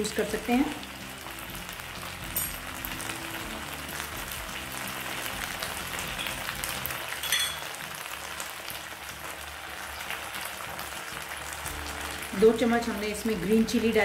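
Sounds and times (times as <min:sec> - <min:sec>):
vegetables sizzling in a frying pan: 0:00.0 - 0:14.0.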